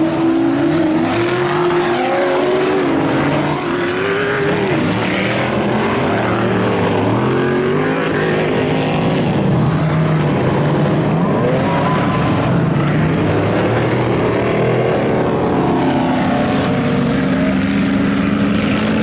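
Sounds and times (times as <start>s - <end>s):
racing buggy engines: 0.0s - 19.0s.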